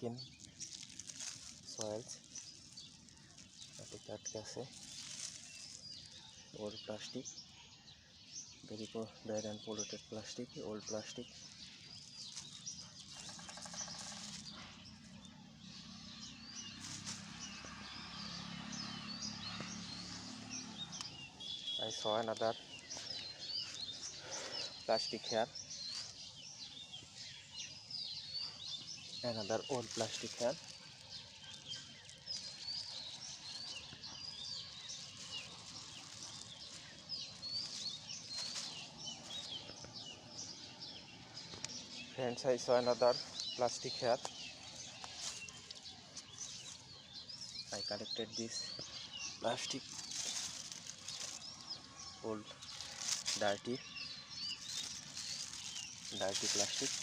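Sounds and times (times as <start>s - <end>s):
rustle: 0.0s - 7.4s, 11.3s - 21.4s, 25.6s - 42.1s, 44.2s - 57.0s
small birds chirping: 0.0s - 57.0s.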